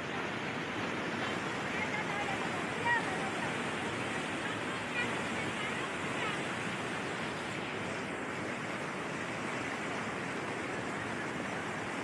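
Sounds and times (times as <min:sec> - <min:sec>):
river rushing over boulders: 0:00.0 - 0:12.0.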